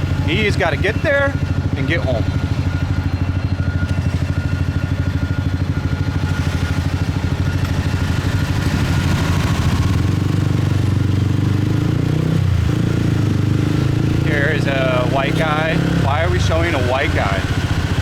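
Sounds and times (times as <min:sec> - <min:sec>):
road and wind noise: 0:00.0 - 0:18.0
small motorcycle engine: 0:00.0 - 0:18.0.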